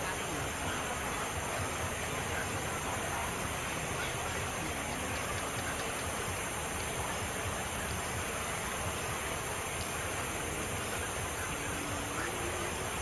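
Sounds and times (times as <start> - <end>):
faint low hum: 0.0 - 13.0
steady rushing hiss: 0.0 - 13.0.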